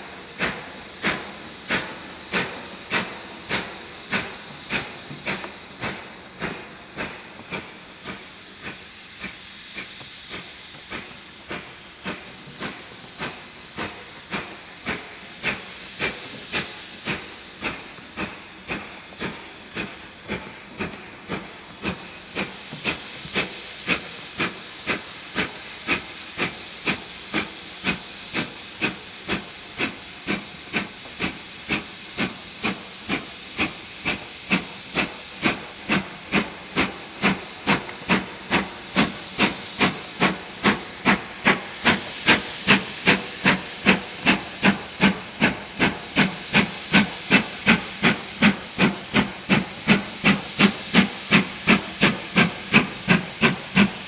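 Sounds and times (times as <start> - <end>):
steam hissing: 0.0 - 54.0
steam locomotive exhaust beats: 0.0 - 54.0.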